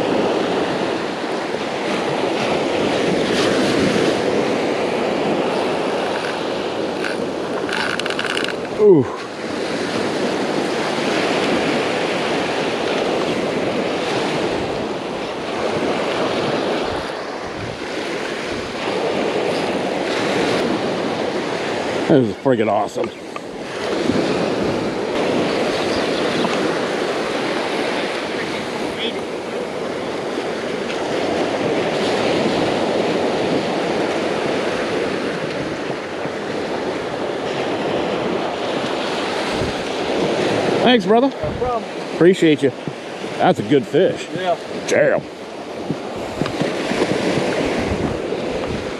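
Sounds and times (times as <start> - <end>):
ocean surf breaking: 0.0 - 48.9
wind buffeting microphone: 0.0 - 48.9.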